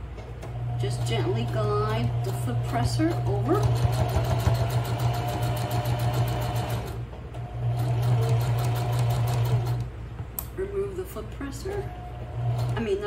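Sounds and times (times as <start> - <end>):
sewing machine stitching: 0.5 - 9.9, 11.7 - 13.0.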